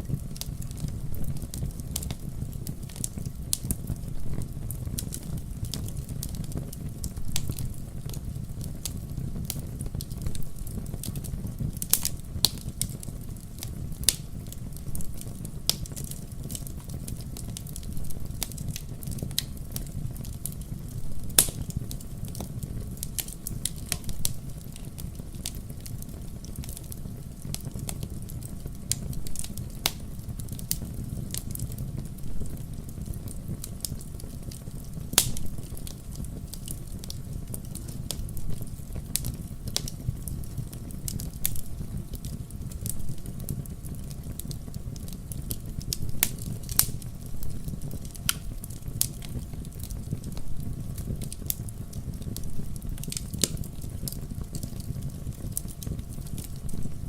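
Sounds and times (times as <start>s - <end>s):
fire popping and snapping: 0.0s - 57.0s
fire rumbling: 0.0s - 57.0s.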